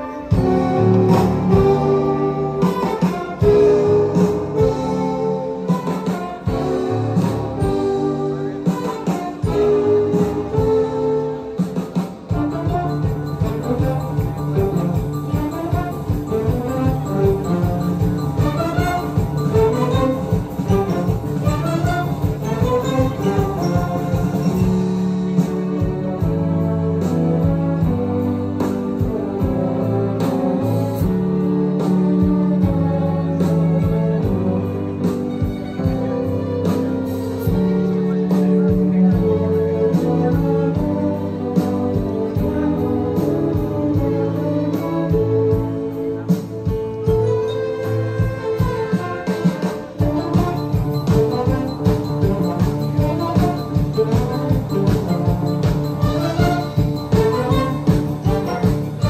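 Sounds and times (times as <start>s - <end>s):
steady drum beat: 0.0s - 59.0s.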